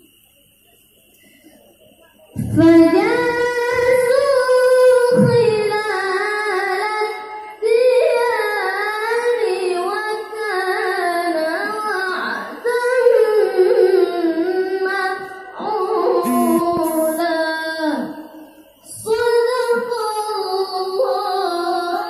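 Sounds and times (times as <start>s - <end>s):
child reciting melodically: 2.4s - 22.0s.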